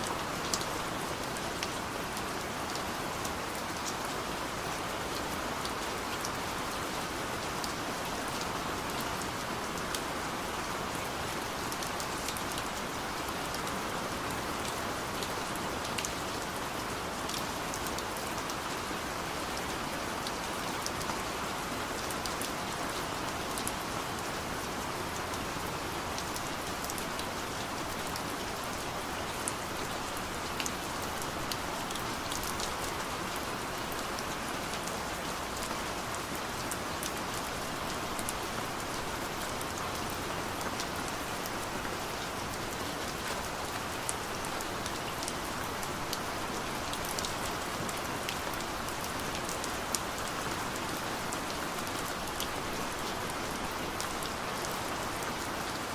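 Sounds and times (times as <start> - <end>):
rain on a car roof: 0.1 - 55.9.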